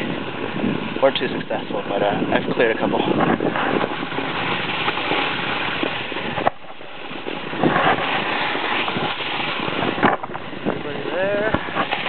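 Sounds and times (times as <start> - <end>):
snowboard scraping on snow: 0.0 - 12.0.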